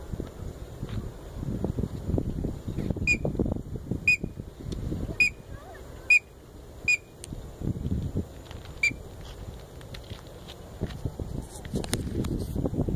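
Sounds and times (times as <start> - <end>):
wind rumble on microphone: 0.0 - 12.9.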